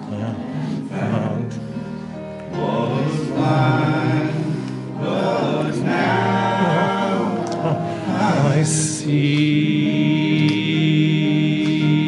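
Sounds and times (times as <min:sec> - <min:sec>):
congregation singing a hymn: 0:00.0 - 0:12.0.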